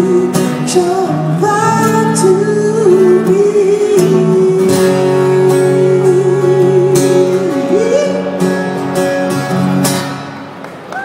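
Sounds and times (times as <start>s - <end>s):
guitar strumming chords: 0.0s - 10.6s.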